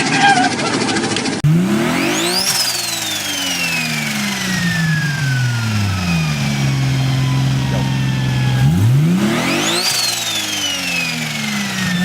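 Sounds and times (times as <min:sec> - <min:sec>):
car engine revving: 0:01.4 - 0:12.0
turbo whistle: 0:02.2 - 0:12.0.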